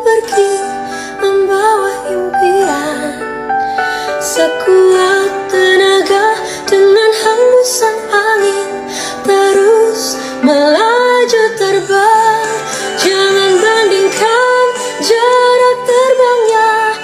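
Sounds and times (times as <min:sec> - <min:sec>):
soft instrumental backing: 0:00.0 - 0:17.0
woman singing slow melody: 0:00.0 - 0:17.0.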